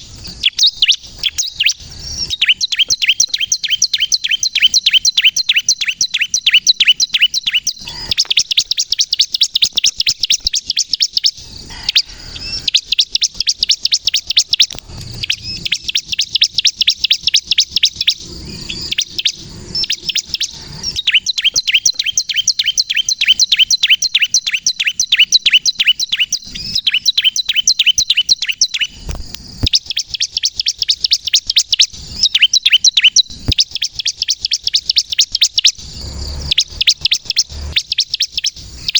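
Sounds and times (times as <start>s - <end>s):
bird singing sharp high chirps: 0.0s - 38.9s.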